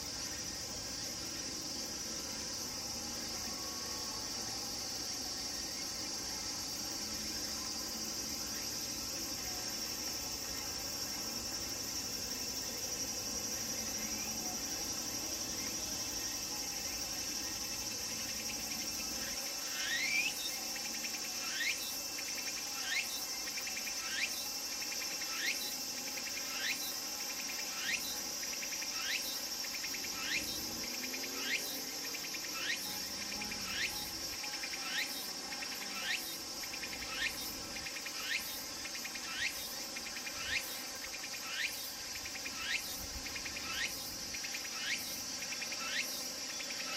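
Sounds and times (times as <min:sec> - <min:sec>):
cicada rising call: 0:00.0 - 0:46.9
cicadas buzzing: 0:00.0 - 0:46.9.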